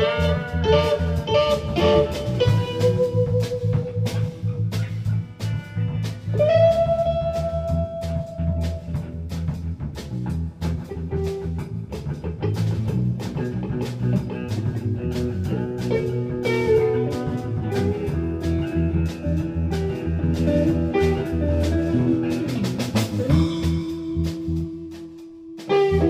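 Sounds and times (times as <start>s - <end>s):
blues guitar: 0.0s - 26.0s
steady drum beat: 0.0s - 26.0s.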